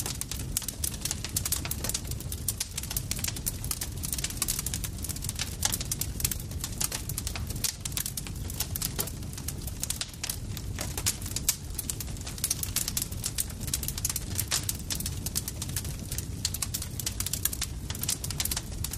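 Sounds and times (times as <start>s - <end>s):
wood campfire crackling: 0.0s - 18.9s.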